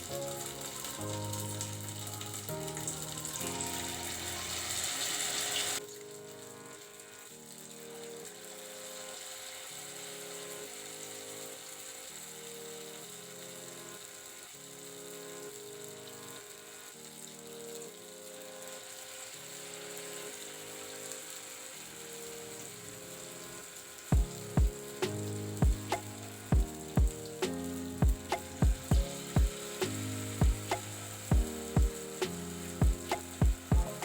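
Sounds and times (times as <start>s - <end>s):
food frying in hot oil: 0.0s - 34.0s
soft background music: 0.0s - 34.0s.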